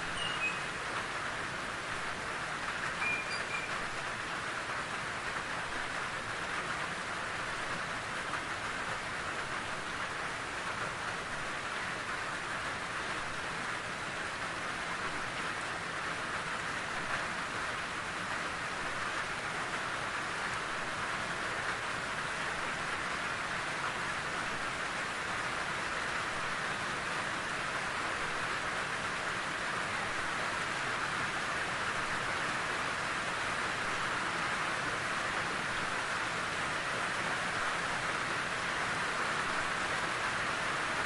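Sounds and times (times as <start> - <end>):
steady rainfall: 0.0 - 41.0.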